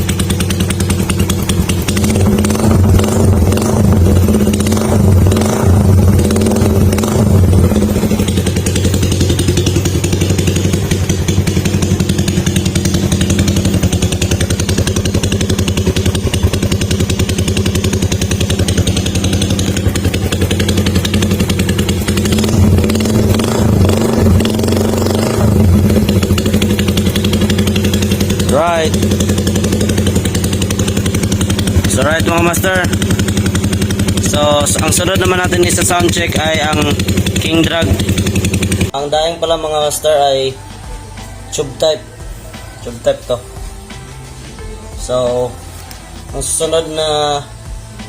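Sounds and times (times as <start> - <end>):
motorcycle engine revving and idling: 0.0 - 48.0.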